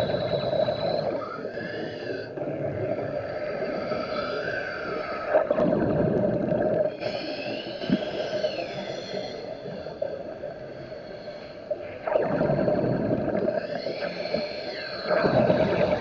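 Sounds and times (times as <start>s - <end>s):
faint sliding whine tones: 0.0s - 16.0s
underwater hum: 0.0s - 16.0s.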